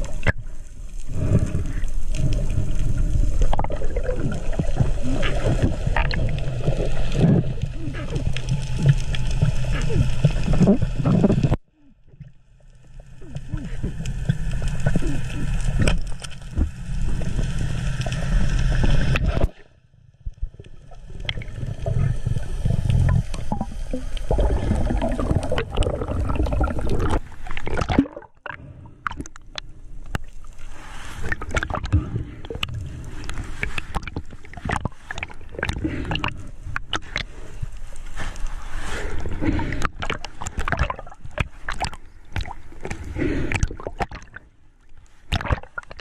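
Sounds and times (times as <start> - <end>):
underwater clicks and crackles: 0.0 - 46.0
underwater rushing and gurgling: 0.0 - 46.0.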